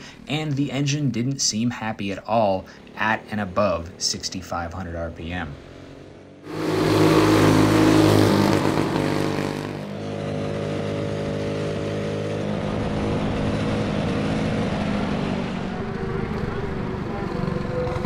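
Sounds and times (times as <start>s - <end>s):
go-kart engine revving high: 2.8s - 18.0s.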